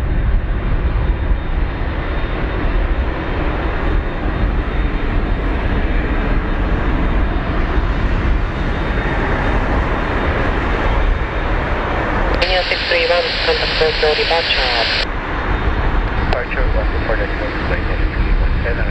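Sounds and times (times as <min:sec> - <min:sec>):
jet engine roar with whine: 0:00.0 - 0:18.9.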